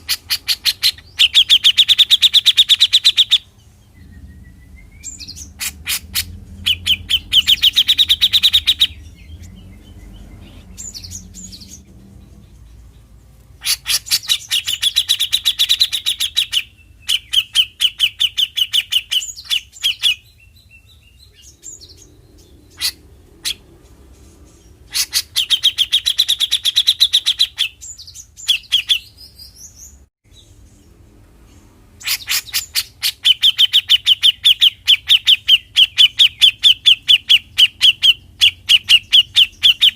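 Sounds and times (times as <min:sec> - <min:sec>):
bird song bursts: 0:00.0 - 0:39.9.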